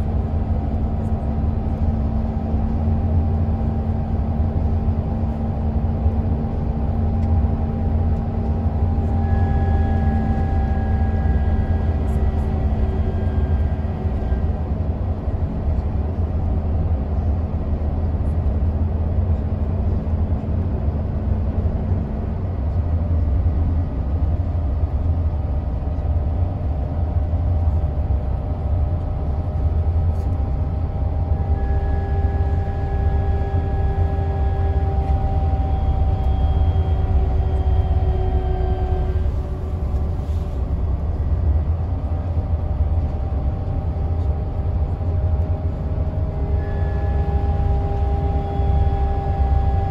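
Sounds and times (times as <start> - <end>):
faint whining tones: 0.0 - 17.3, 22.7 - 49.9
coach engine and road drone: 0.0 - 49.9.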